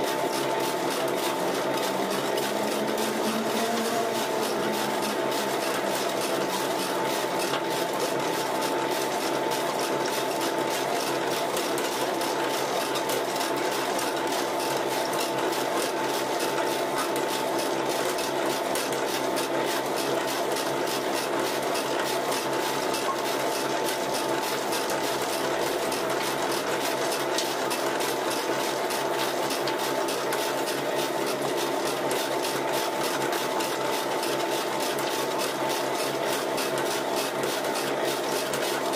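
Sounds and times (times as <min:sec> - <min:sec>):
pellet mill hum and whine: 0:00.0 - 0:38.9.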